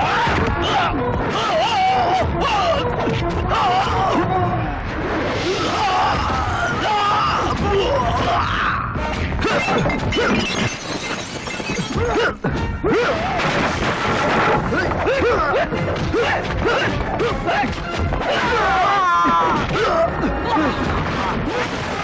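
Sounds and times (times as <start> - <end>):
men shouting and grunting: 0.0 - 4.8, 5.6 - 10.4, 12.0 - 13.4, 14.6 - 22.0
dramatic background music: 0.0 - 22.0.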